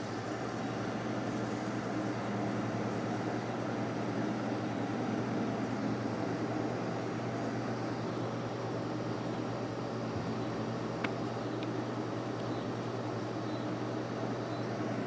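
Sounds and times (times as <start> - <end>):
box fan humming: 0.0 - 15.0
cicadas: 0.0 - 15.0
faint refrigerant flowing: 0.0 - 15.0.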